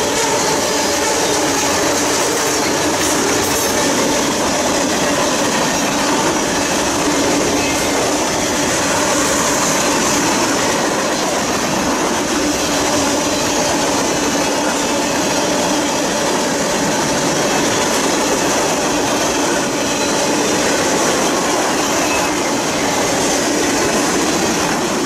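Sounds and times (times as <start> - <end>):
steel train wheels rolling on rails: 0.0 - 25.0.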